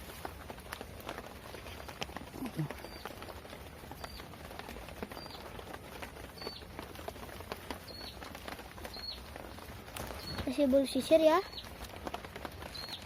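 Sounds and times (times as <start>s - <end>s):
light ticks and pattering: 0.0s - 13.0s
small bird chirping: 1.5s - 6.7s, 7.7s - 13.0s.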